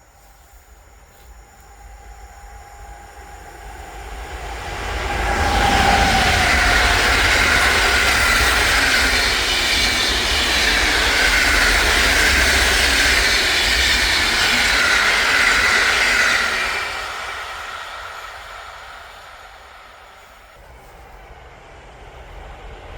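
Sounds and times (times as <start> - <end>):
faint high ringing tone: 0.0 - 21.3
train wheels rushing on rails: 0.0 - 22.9.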